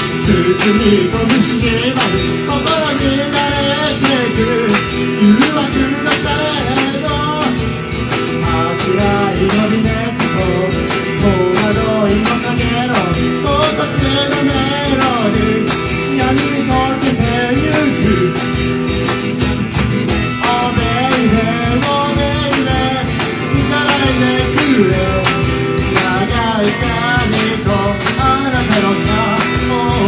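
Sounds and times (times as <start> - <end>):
man singing: 0.0 - 19.4, 20.3 - 30.0
cajon beat: 0.0 - 30.0
strummed acoustic guitar: 0.0 - 30.0.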